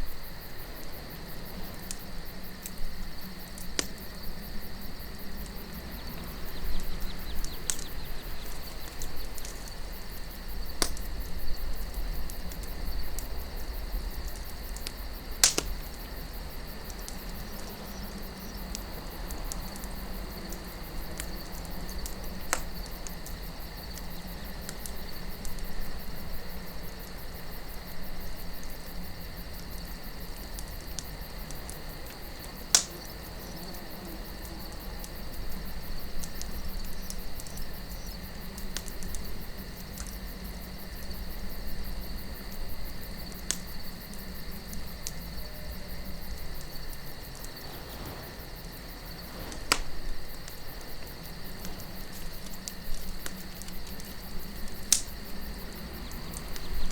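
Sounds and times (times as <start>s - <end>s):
campfire burning: 0.0s - 56.9s
crickets chirping: 0.0s - 56.9s
low rumble of wind: 0.0s - 56.9s
burning wood popping: 0.1s - 56.9s.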